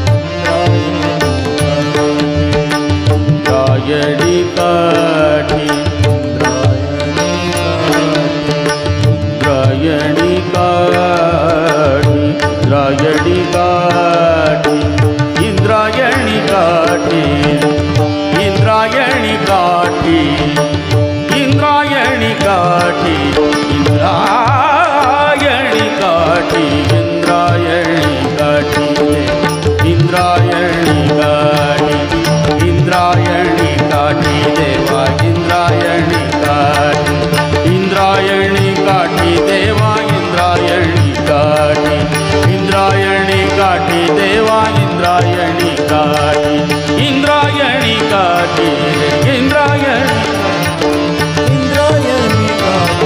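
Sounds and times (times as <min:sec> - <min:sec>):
man singing devotional song: 0:00.0 - 0:53.0
tabla beat: 0:00.0 - 0:53.0.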